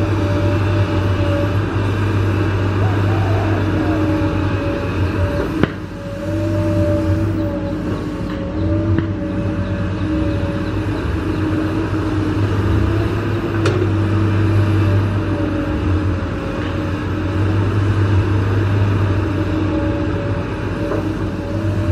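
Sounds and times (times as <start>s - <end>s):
excavator diesel engine running: 0.0s - 21.9s
steady hydraulic whine: 0.0s - 21.9s.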